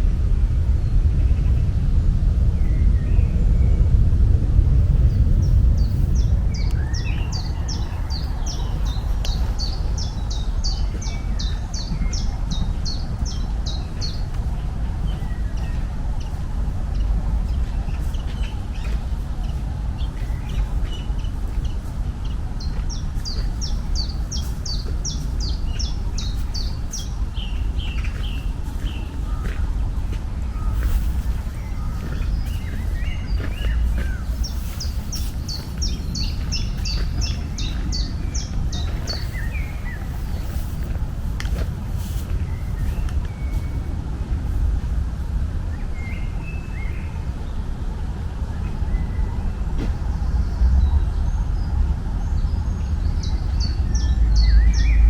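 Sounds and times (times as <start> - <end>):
low rumbling noise: 0.0 - 55.0
songbird singing: 0.0 - 55.0.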